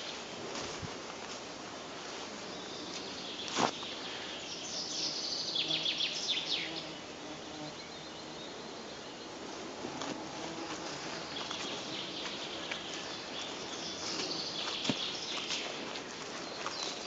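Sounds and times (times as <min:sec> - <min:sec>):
outdoor background hiss: 0:00.0 - 0:17.0
songbird singing: 0:02.3 - 0:17.0.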